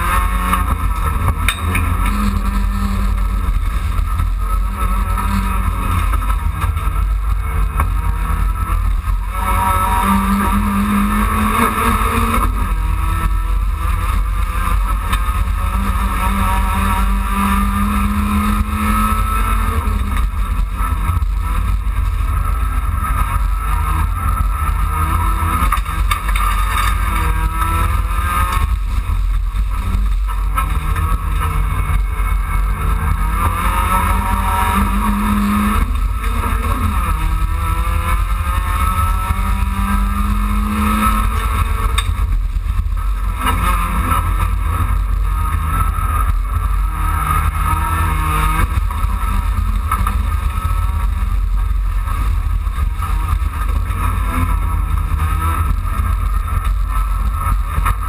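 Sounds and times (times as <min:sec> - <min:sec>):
low rumble: 0:00.0 - 0:58.0
race car engine revving through gears: 0:00.0 - 0:58.0.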